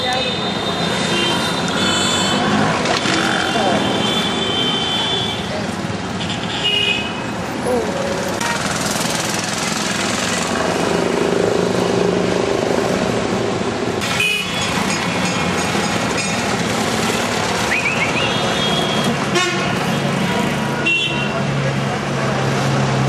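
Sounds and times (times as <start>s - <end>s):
motorcycle and rickshaw engines: 0.0s - 23.0s.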